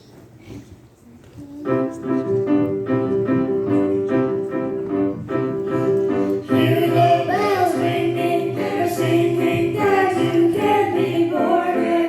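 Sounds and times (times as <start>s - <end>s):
piano chords: 1.6s - 12.0s.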